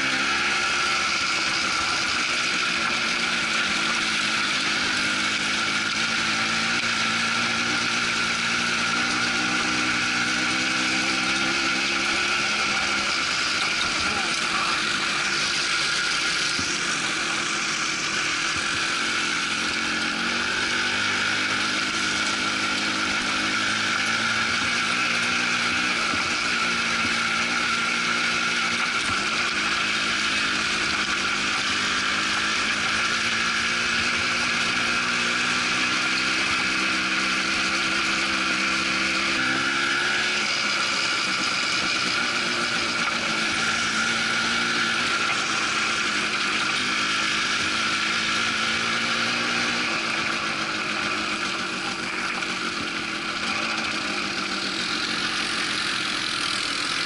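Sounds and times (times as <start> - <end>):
quad bike engine running: 0.0 - 57.0
tyres on gravel: 0.0 - 57.0.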